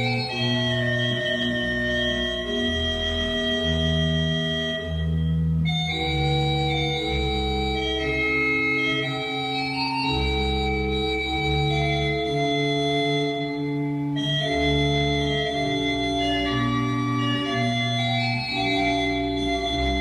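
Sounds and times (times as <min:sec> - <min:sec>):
slow organ music: 0:00.0 - 0:20.0.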